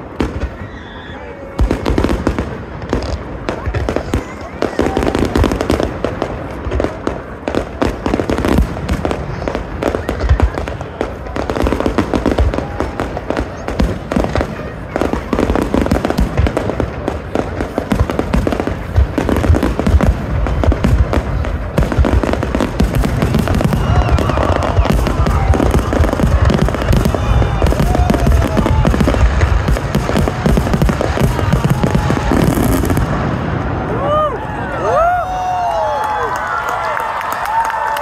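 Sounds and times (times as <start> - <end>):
fireworks booming and crackling: 0.0 - 36.2.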